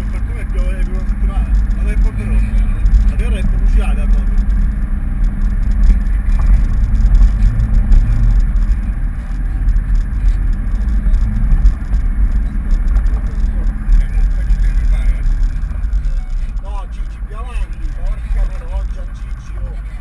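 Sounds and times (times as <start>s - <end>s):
off-road vehicle engine rumbling: 0.0s - 20.0s.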